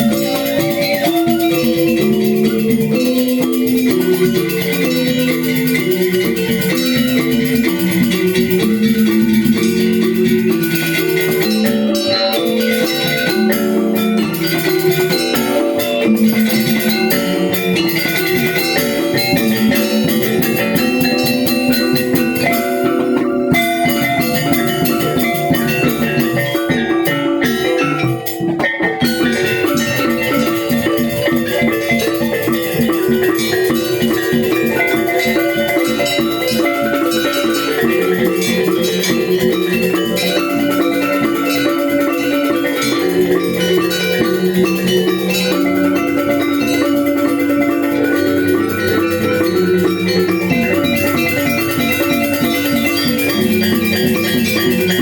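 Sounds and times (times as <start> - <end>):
drums: 0.0 - 55.0
metallophones playing interlocking patterns: 0.0 - 55.0.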